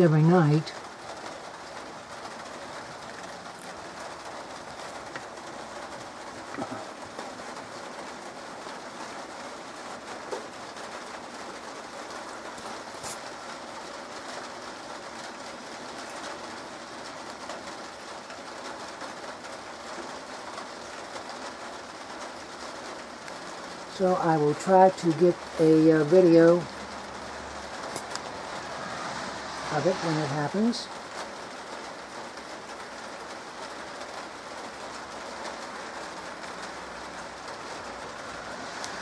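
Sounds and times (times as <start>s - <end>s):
louder raindrop ticks: 0.0s - 28.8s, 30.7s - 39.0s
light rain falling: 0.0s - 39.0s.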